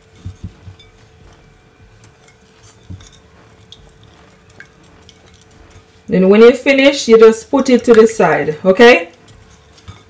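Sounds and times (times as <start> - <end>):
spoon stirring sauce: 0.0 - 10.0.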